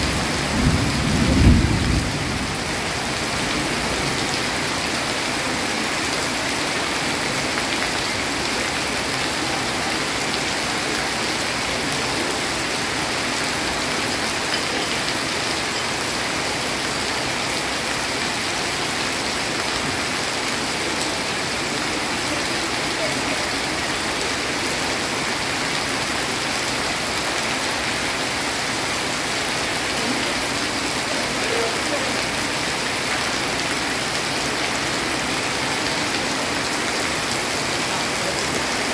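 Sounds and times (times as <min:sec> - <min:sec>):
heavy rain on stone paving: 0:00.0 - 0:38.9.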